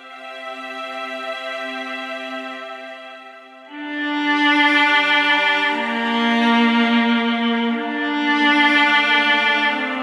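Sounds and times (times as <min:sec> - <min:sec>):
slow music with long held notes: 0:00.0 - 0:10.0.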